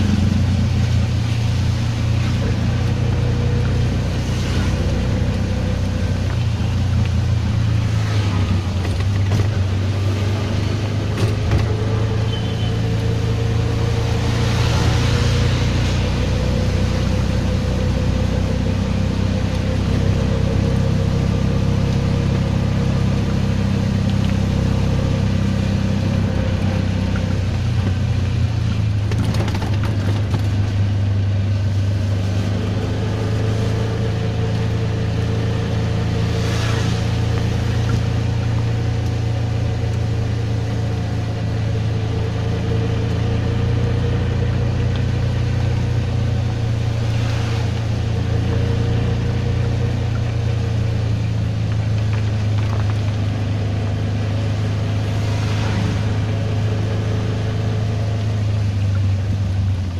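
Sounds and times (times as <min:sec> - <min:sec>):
auto-rickshaw engine drone: 0:00.0 - 0:59.9.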